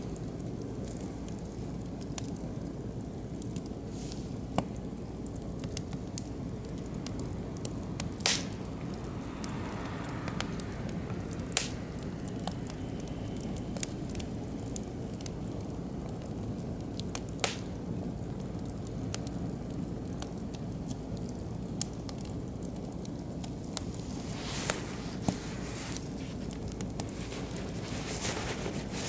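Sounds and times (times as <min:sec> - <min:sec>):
fire popping: 0:00.0 - 0:29.0
wood fire burning: 0:00.0 - 0:29.0.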